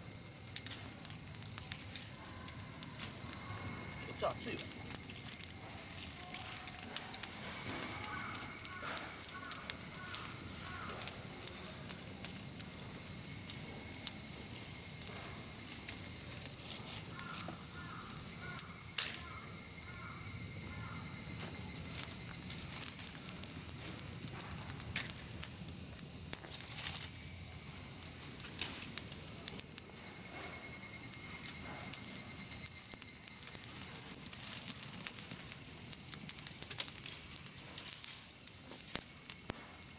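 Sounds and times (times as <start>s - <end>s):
campfire crackling: 0.0s - 39.9s
night insects chorus: 0.0s - 39.9s.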